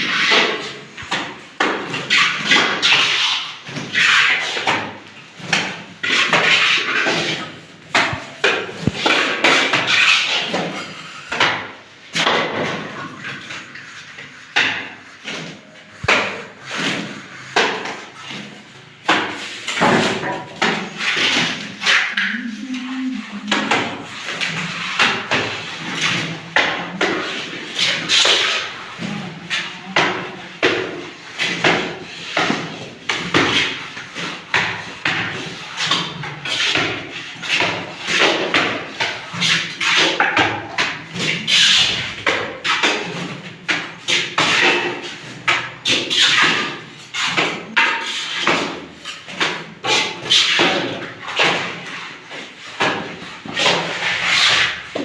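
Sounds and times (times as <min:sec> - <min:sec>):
trowel knocking and scraping plaster: 0:00.0 - 0:55.0.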